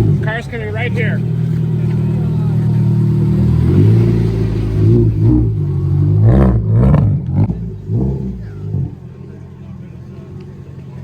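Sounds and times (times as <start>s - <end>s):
rally car engine passing: 0.0s - 11.0s.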